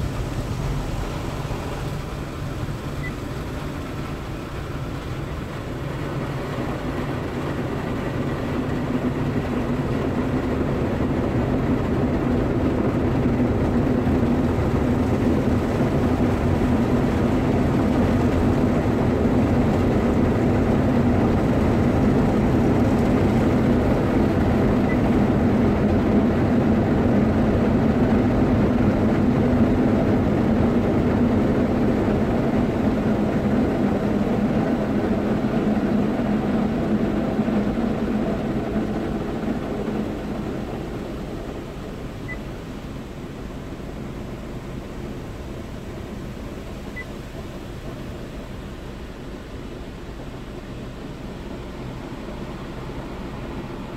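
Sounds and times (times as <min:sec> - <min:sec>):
car wash brushes and spray drone: 0:00.0 - 0:53.9.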